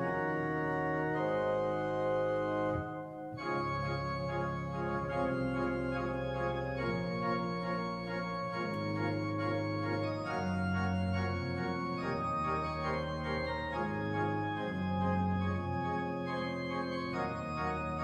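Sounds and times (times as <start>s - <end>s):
church organ playing chords: 0.0s - 18.0s.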